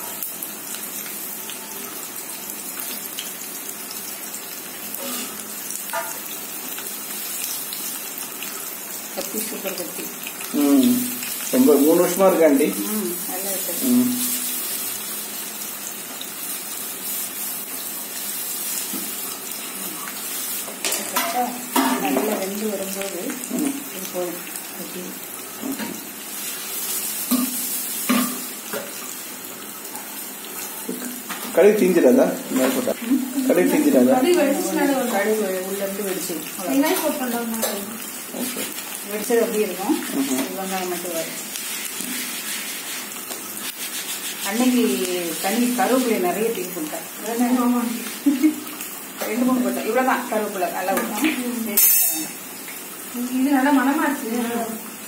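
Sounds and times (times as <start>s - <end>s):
oil sizzling in pan: 0.0s - 55.0s.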